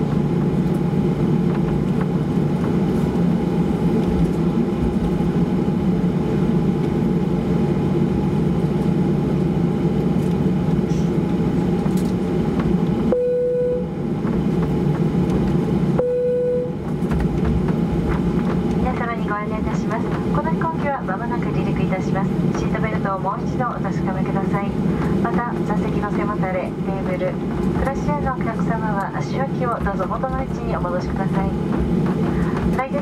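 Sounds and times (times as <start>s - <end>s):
low rumble of jet engines: 0.0s - 33.0s.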